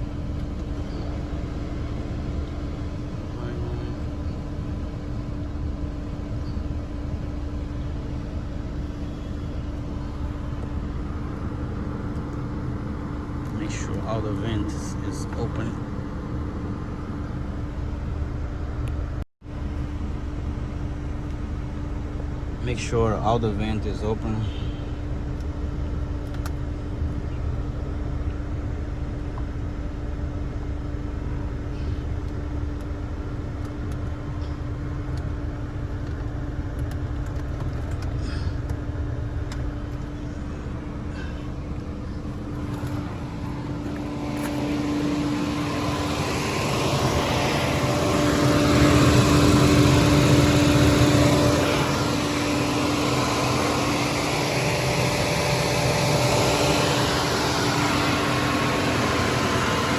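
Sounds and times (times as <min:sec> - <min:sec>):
car engine idling: 0:00.0 - 0:59.9
fan rushing air: 0:00.0 - 0:59.9.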